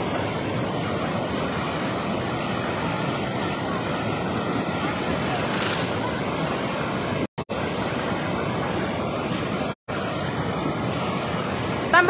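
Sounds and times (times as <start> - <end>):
floodwater rushing over weir: 0.0 - 12.0.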